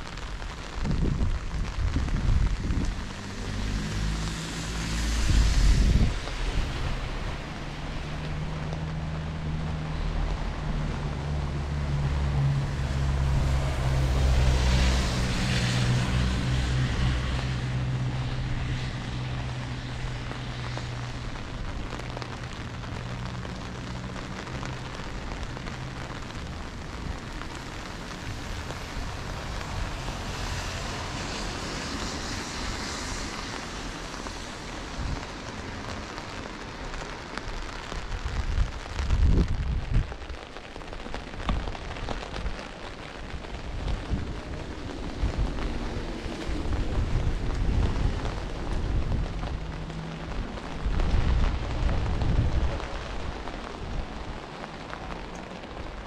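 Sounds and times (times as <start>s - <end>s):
rain and wind hissing: 0.0s - 56.0s.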